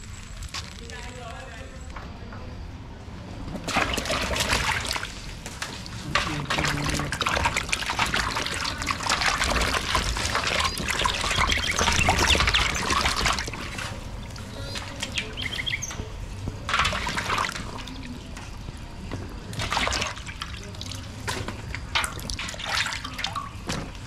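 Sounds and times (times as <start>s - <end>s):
water splashing and trickling: 3.6s - 24.0s.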